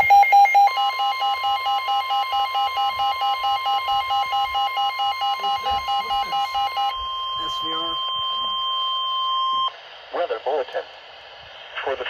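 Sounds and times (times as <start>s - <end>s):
loud pulsing alarm beep: 0.0s - 9.8s
steady alarm tone: 0.0s - 9.8s.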